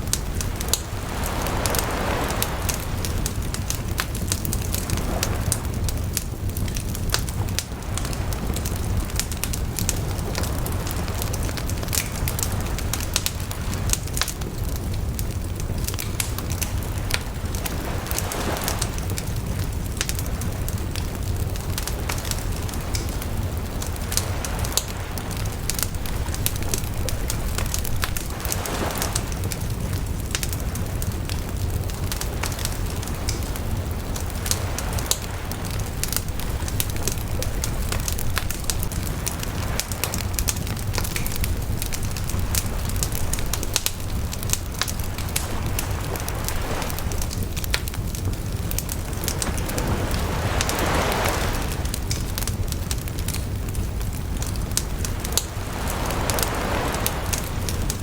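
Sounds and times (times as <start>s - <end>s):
bonfire crackling and popping: 0.0s - 58.0s
low rumble of flame: 0.0s - 58.0s.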